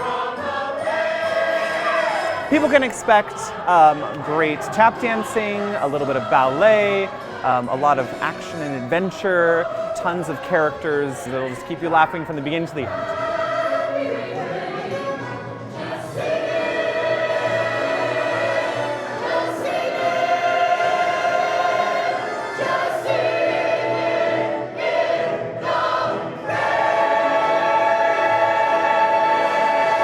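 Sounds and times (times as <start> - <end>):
chorus singing with music: 0.0 - 30.0.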